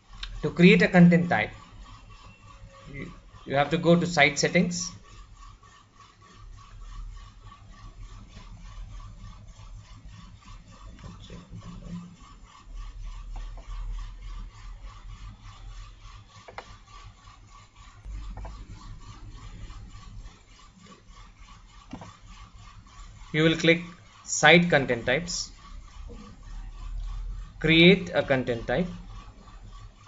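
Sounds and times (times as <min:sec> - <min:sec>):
steady pulsing whine: 0:00.0 - 0:30.0.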